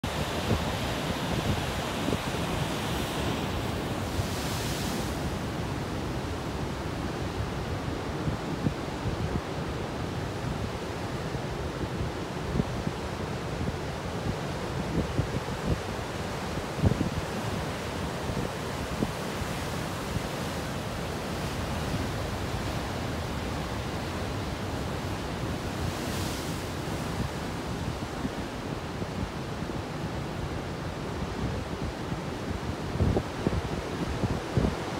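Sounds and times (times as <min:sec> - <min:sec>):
surf breaking and washing ashore: 0:00.0 - 0:34.9.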